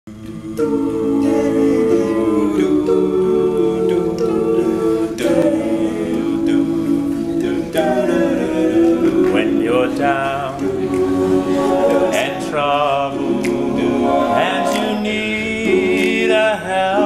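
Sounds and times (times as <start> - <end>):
male group singing close harmony: 0.1 - 17.0.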